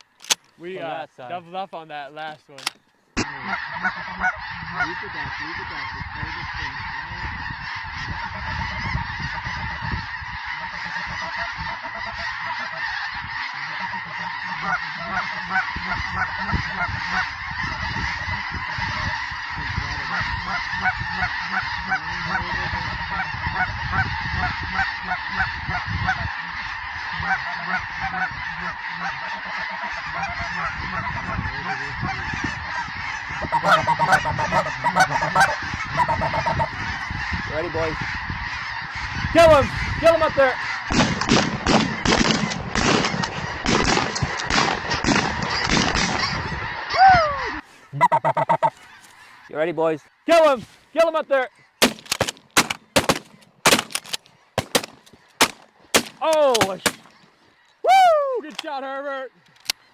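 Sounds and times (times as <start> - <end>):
snow geese honking: 0.0 - 41.0, 46.2 - 47.0, 47.6 - 59.9.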